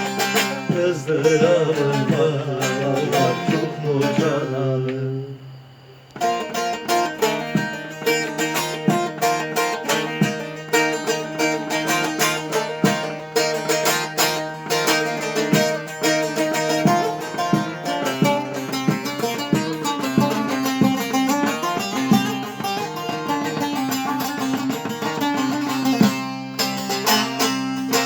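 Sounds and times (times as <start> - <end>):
plucked string instrument run: 0.0 - 28.0.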